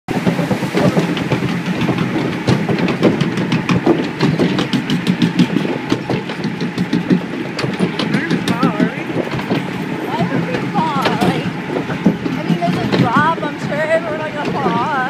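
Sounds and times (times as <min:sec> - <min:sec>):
boat clattering along trough: 0:00.1 - 0:15.0
low mechanical rumble: 0:00.1 - 0:15.0
rapid clicks and rattles: 0:00.1 - 0:15.0.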